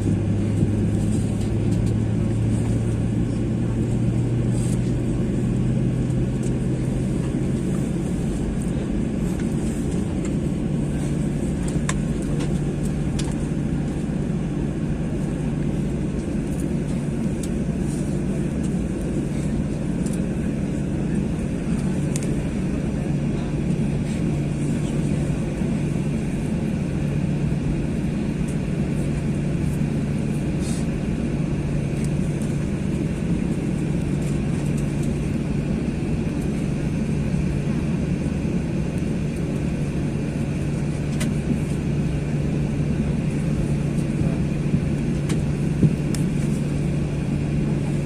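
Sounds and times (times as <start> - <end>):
aircraft cabin engine drone: 0.0 - 48.0.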